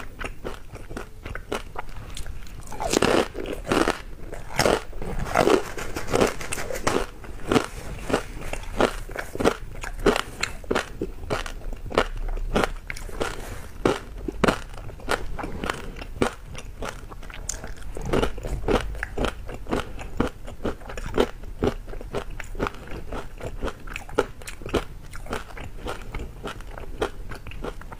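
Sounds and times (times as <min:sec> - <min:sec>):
person chewing crunchy food: 0:00.0 - 0:27.9.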